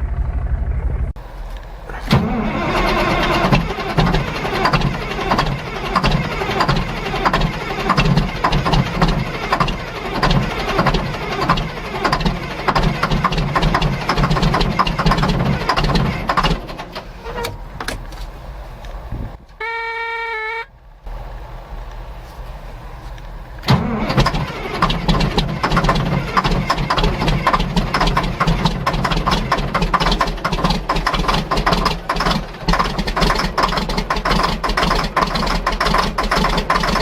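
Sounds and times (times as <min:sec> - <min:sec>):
diesel engine cranking: 0:00.1 - 0:37.0.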